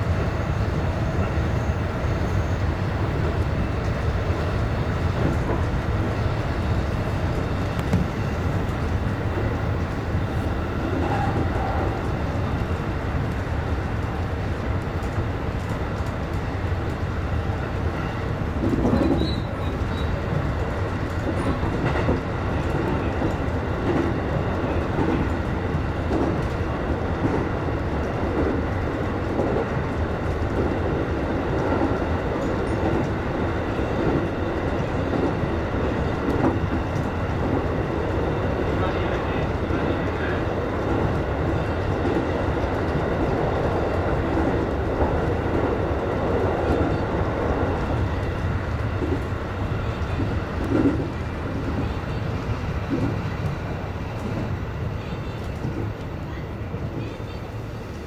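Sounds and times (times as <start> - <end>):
train wheels rumbling on rail: 0.0 - 58.0
rhythmic clickety-clack: 3.2 - 10.0, 10.8 - 17.0, 17.8 - 54.6.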